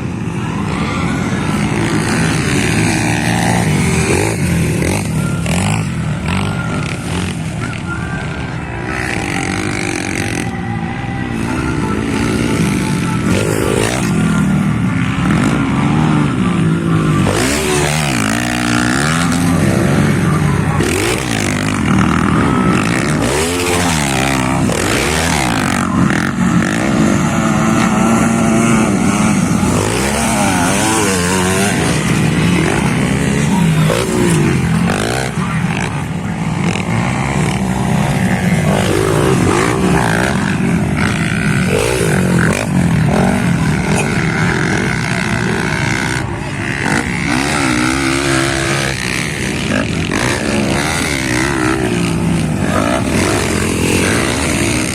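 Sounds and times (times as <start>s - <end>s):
motocross bike engines revving: 0.0s - 54.9s.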